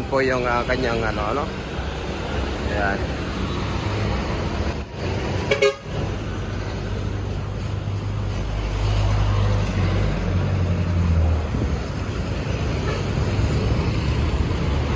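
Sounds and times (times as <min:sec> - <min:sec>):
vehicles passing: 0:00.0 - 0:14.9.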